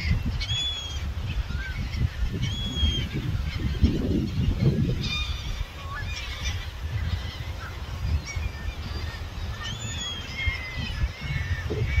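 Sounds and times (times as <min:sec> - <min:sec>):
bird calls: 0:00.0 - 0:12.0
wind buffeting microphone: 0:00.0 - 0:12.0.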